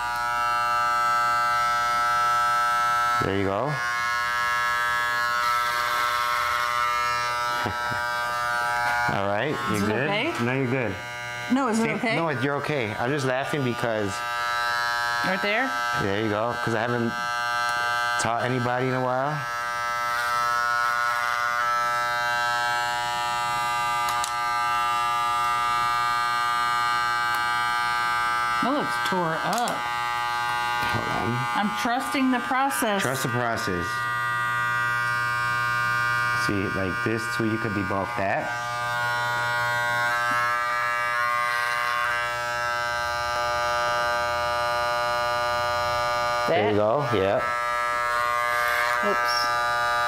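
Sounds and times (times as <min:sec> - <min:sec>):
electric hair clippers buzzing: 0:00.0 - 0:50.0.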